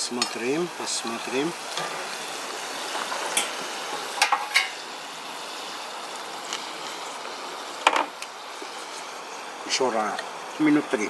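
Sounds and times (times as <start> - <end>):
water boiling bubbling hiss: 0.0 - 11.0.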